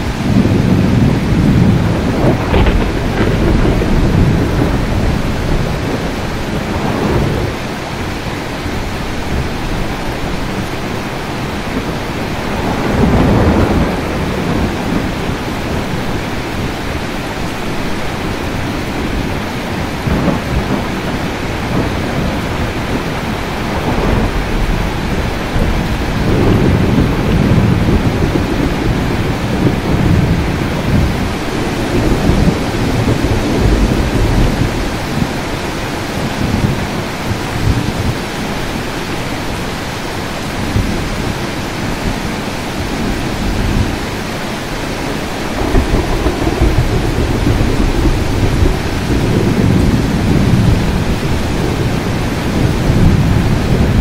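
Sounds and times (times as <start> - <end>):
rolling thunder: 0.0 - 54.0
steady rain falling: 0.0 - 54.0.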